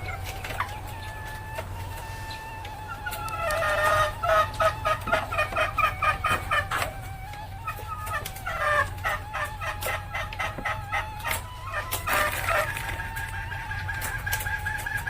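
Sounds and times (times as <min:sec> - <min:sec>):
hen cackling: 0:00.0 - 0:15.0
steady low hum: 0:00.0 - 0:15.0.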